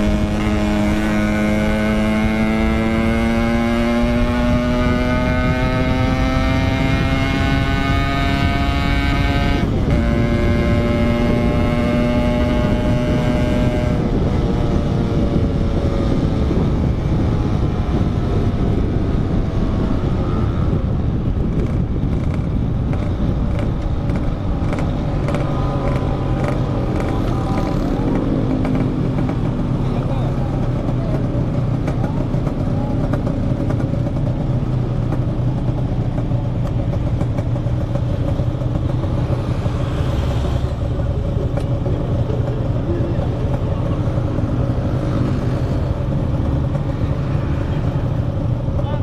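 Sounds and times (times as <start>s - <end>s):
wind and road rush: 0.0s - 49.0s.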